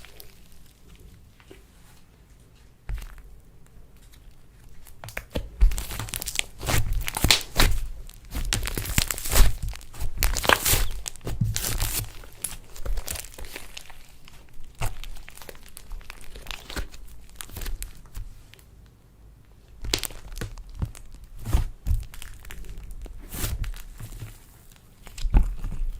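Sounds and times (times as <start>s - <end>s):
slime squishing and crackling: 0.0s - 18.7s, 19.5s - 25.9s.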